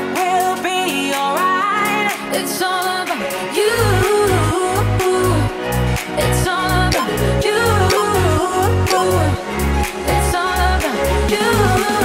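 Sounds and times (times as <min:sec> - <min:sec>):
pop music with singing: 0:00.0 - 0:12.0.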